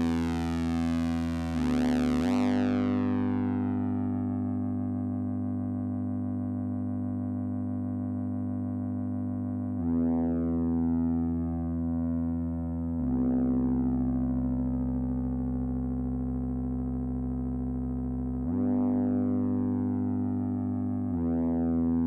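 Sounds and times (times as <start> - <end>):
analog synthesizer drone: 0.0 - 22.0.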